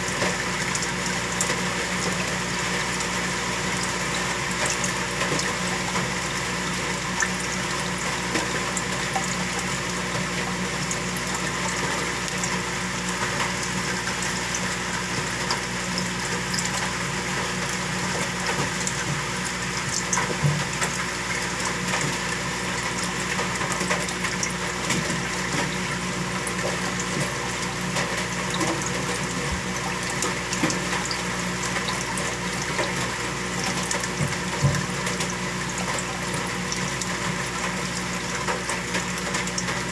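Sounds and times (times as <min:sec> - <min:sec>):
water pump humming: 0:00.0 - 0:39.9.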